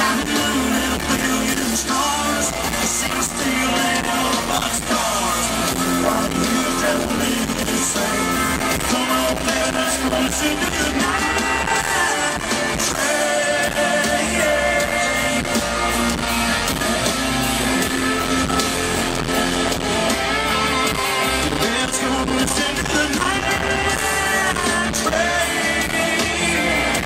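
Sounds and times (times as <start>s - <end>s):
country-rock band playing: 0.0s - 27.0s
guitars: 0.0s - 27.0s
person singing: 0.0s - 27.0s.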